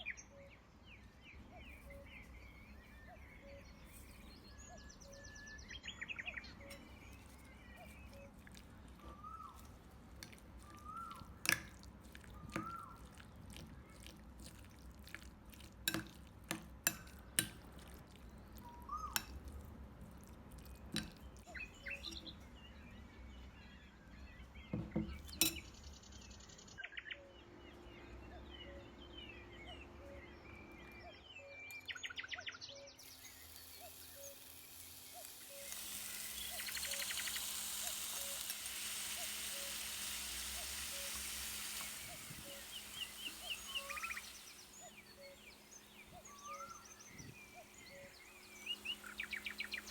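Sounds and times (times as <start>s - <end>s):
faint bird chirps: 0.0s - 9.9s, 10.6s - 11.4s, 12.3s - 13.1s, 21.0s - 49.9s.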